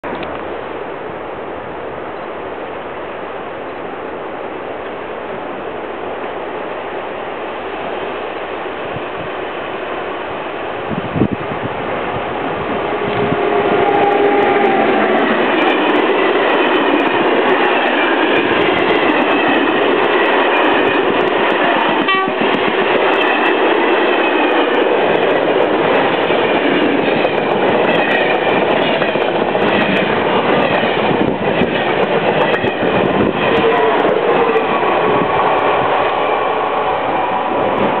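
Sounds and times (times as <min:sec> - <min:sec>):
rush of steel wheels on rail: 0:01.8 - 0:38.0.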